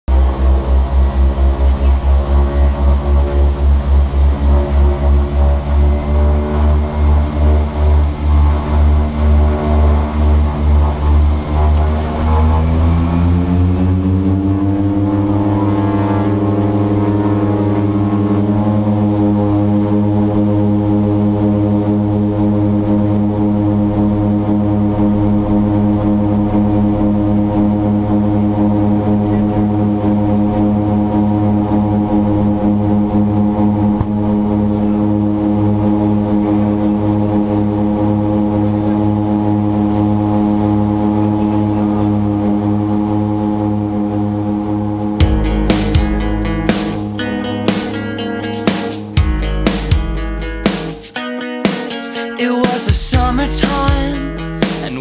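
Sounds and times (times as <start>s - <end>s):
turboprop engines throbbing drone: 0.0s - 51.1s, 53.1s - 55.0s.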